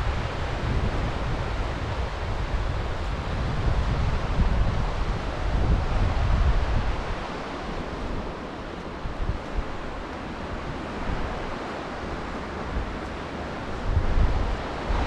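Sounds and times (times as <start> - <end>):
sea waves washing onto shore: 0.0 - 15.0
wind noise on microphone: 0.0 - 15.0.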